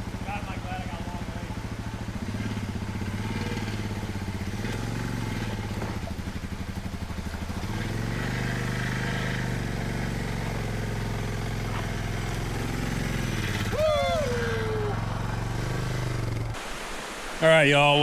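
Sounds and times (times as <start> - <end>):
motorcycle engine running: 0.0 - 16.6.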